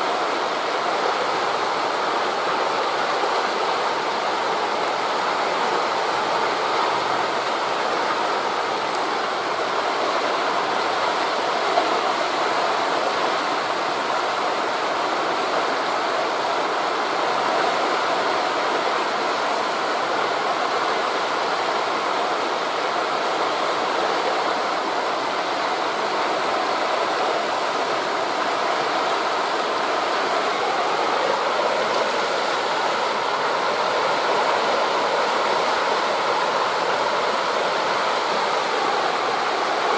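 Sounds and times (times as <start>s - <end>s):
sea waves on a beach: 0.0s - 39.9s
wind through leaves: 0.0s - 39.9s.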